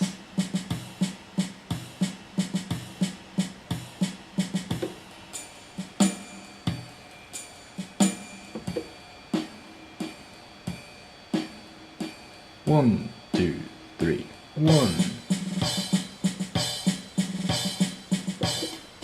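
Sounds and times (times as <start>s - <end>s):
drum machine waltz pattern: 0.0s - 19.0s.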